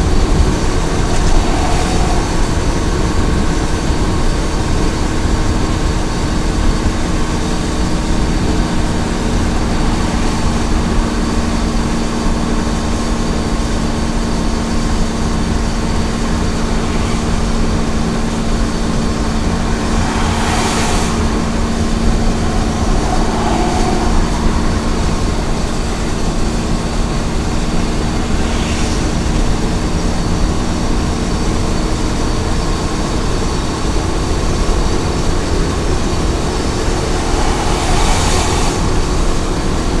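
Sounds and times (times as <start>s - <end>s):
rushing whoosh: 0.0s - 32.4s, 33.4s - 40.0s
truck engine and road noise: 0.0s - 40.0s.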